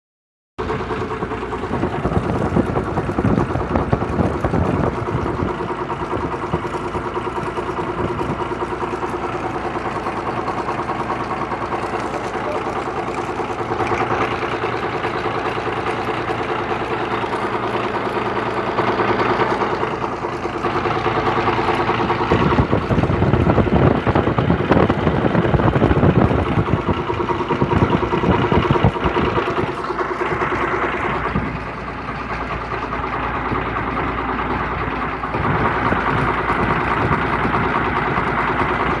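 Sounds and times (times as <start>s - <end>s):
engine idling: 0.6s - 39.0s.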